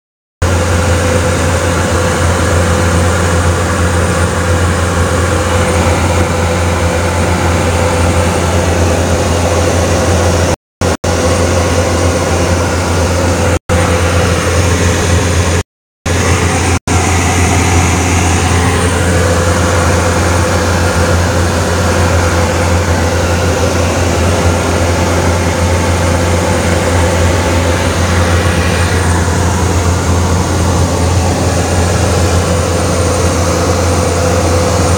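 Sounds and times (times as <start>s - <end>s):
light aircraft engine drone: 0.4s - 34.9s.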